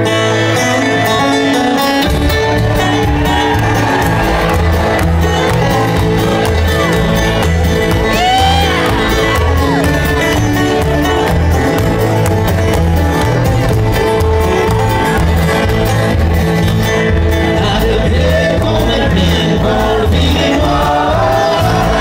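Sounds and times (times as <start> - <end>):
acoustic guitars: 0.0 - 22.0
banjo: 0.0 - 22.0
mandolin: 0.0 - 22.0
upright bass: 0.0 - 22.0.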